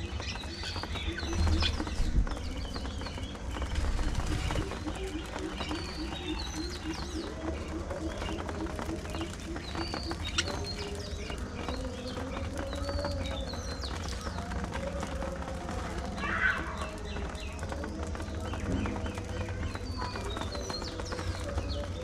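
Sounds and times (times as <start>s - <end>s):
budgies chirping and warbling: 0.0s - 22.0s
low pulsing bird call: 0.0s - 22.0s.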